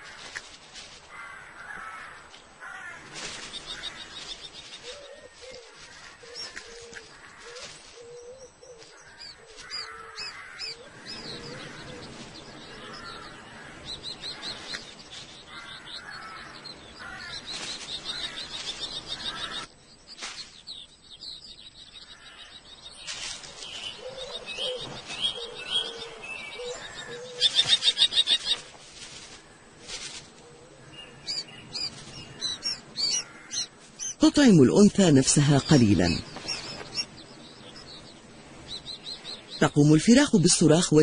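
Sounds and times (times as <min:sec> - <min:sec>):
kestrels calling shrilly: 0:01.1 - 0:19.7, 0:20.3 - 0:28.7, 0:30.8 - 0:40.3.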